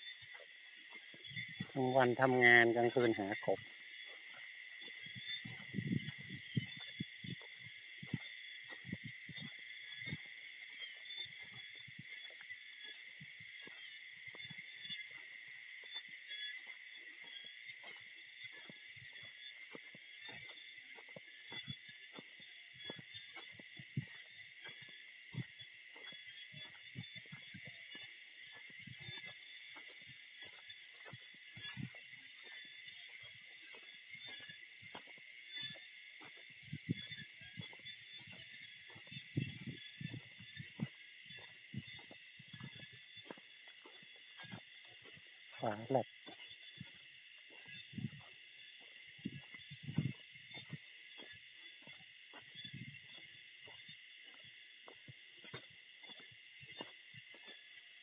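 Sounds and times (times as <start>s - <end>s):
high-pitched insect trilling: 0.0s - 57.9s
fast pulsing insect trill: 0.0s - 58.0s.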